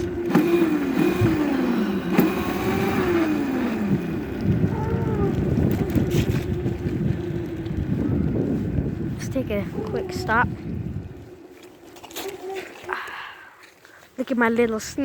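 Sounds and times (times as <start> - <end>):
dirt bike motor: 0.0 - 15.0
rough road and wind noise: 0.0 - 15.0.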